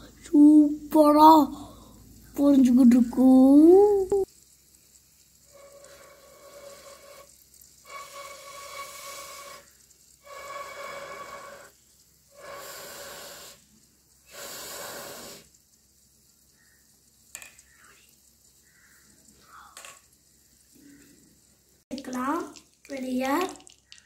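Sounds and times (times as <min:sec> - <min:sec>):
faint sizzling in oil: 0:00.0 - 0:24.0.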